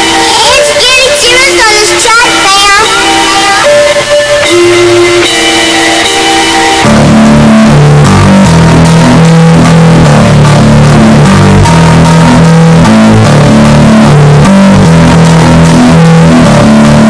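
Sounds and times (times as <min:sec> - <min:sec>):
guitar intro music: 0:00.0 - 0:17.0
heavy bass line: 0:00.0 - 0:17.0.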